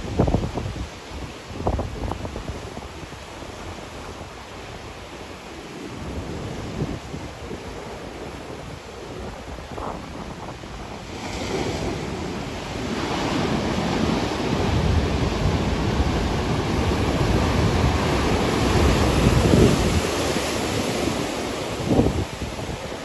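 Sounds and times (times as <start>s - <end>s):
waves breaking on shore: 0.0s - 23.0s
wind buffeting microphone: 0.0s - 23.0s.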